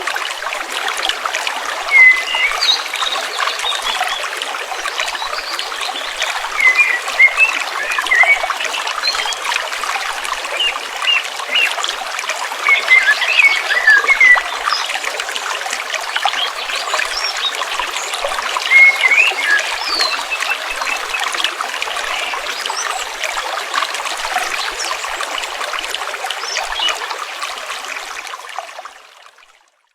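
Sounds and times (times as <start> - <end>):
small stream trickling: 0.0 - 29.9.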